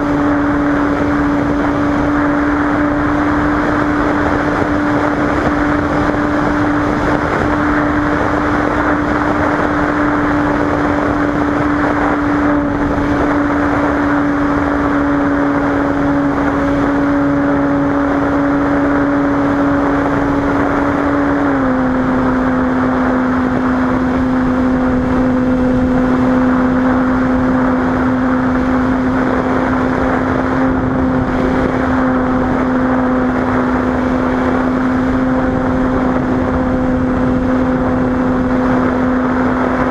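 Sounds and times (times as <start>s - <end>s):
propeller plane engine droning: 0.0s - 39.9s
wind rush: 0.0s - 39.9s.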